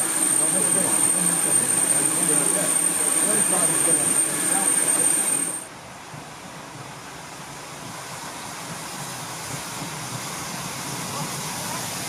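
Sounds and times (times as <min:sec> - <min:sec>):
steam hissing from locomotive: 0:00.0 - 0:12.0
steam train approaching: 0:00.0 - 0:12.0.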